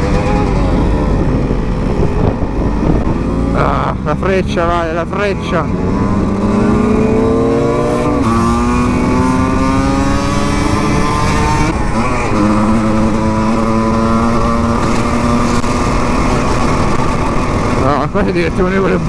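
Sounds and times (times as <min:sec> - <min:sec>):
motorcycle engine revving through gears: 0:00.0 - 0:19.0.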